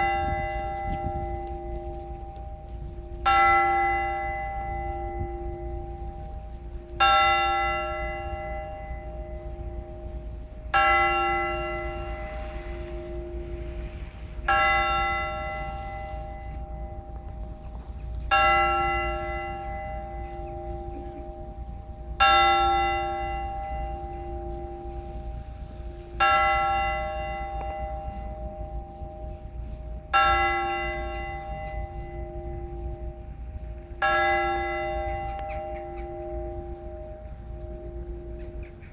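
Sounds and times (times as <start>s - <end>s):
large church bell tolling: 0.0s - 38.9s.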